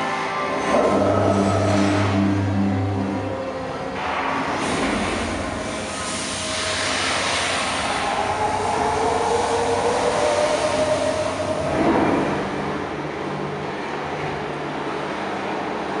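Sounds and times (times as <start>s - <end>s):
gliding electronic tone: 0.0s - 13.9s
electronic rush of noise: 0.0s - 14.4s.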